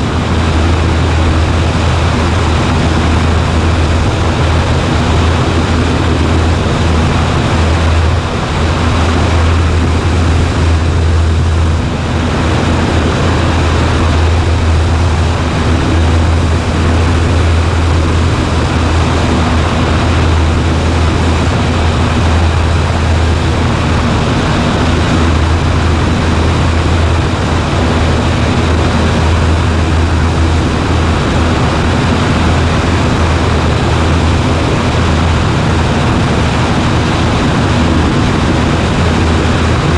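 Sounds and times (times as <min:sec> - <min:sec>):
airplane engine droning: 0:00.0 - 0:39.9
rush of air: 0:00.0 - 0:39.9.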